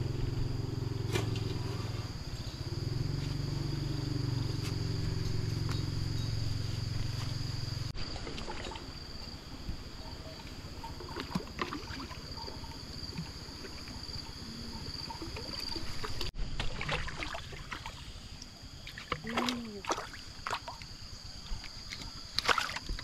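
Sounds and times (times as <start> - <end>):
water splashing and sloshing: 0.5 - 23.0.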